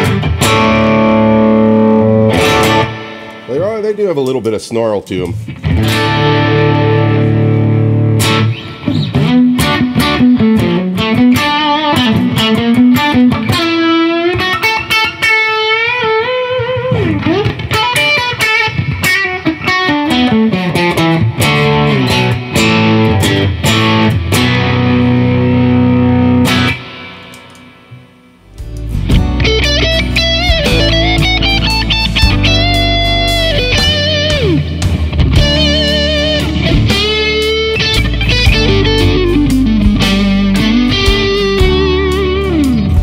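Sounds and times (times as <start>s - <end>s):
overdriven electric guitar: 0.0s - 3.9s, 5.2s - 43.0s.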